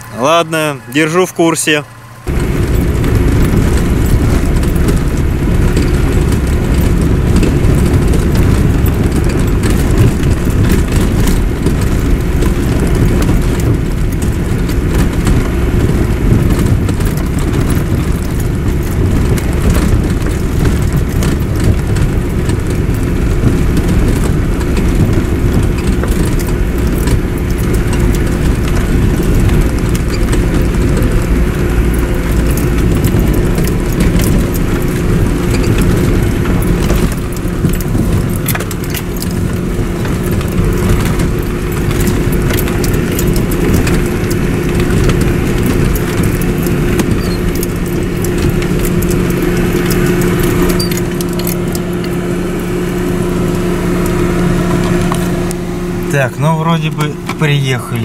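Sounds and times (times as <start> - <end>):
car engine and tyre rumble: 0.0 - 58.0
small knocks and rattles: 2.3 - 58.0.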